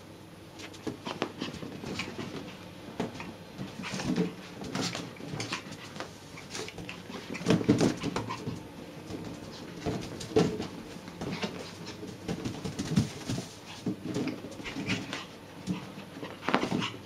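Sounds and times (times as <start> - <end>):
dog paws scrabbling: 0.6 - 17.0.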